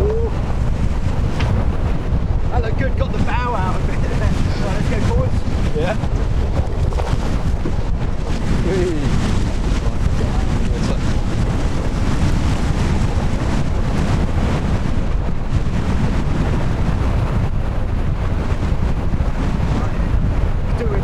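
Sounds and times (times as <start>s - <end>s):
water rushing past hulls: 0.0s - 21.0s
wind buffeting microphone: 0.0s - 21.0s.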